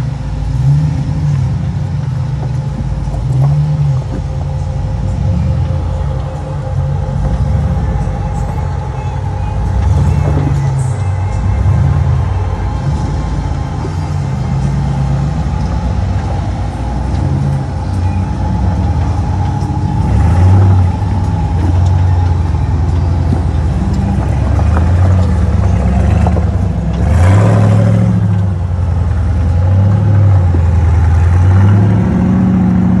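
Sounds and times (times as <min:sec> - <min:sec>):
buggy engine revving under load: 0:00.0 - 0:33.0.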